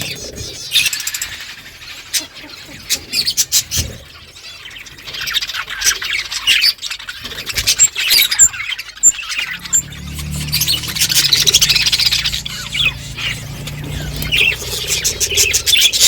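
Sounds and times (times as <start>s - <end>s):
budgerigars chirping and chattering: 0.0s - 16.0s.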